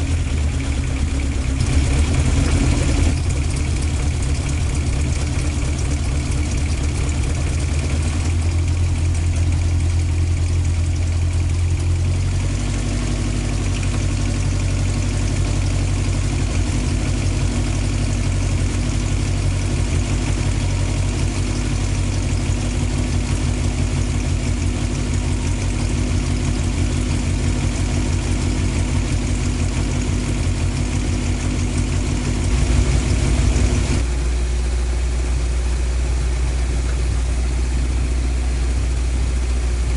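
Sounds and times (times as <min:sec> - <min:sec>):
car engine at raised idle: 0:00.0 - 0:39.9.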